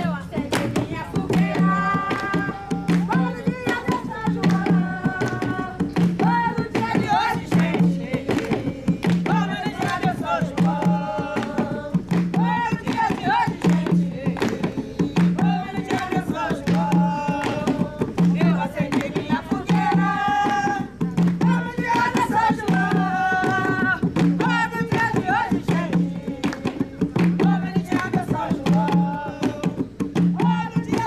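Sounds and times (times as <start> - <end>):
hand drums: 0.0 - 31.0
voices singing: 0.0 - 31.0.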